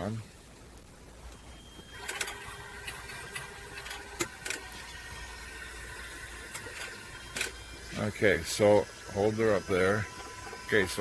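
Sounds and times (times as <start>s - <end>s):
electric fuel pump whining: 1.3s - 11.0s.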